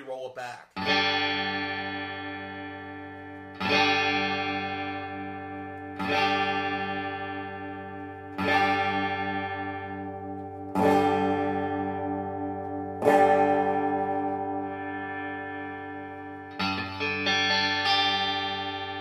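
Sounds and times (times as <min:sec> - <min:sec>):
electric guitar chord strummed: 0:00.8 - 0:19.0.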